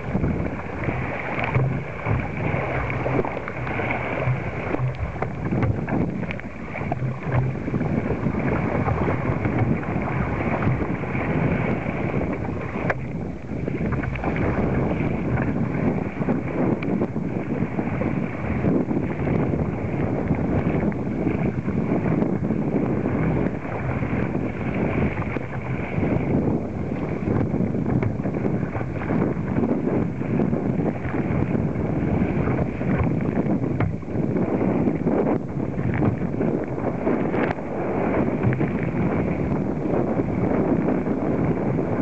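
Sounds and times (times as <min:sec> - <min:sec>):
water splashes: 0:00.0 - 0:42.0
waves slapping kayak: 0:00.0 - 0:42.0
wind buffeting microphone: 0:00.0 - 0:42.0.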